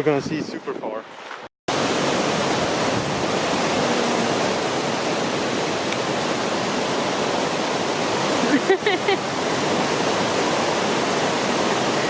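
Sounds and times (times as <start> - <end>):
waterfall rushing: 1.7 - 12.0.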